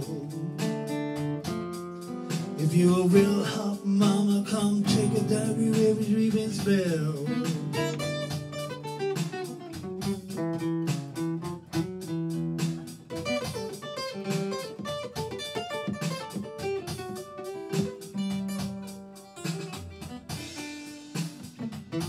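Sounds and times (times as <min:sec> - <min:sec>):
fingerstyle acoustic guitar blues: 0:00.0 - 0:22.0.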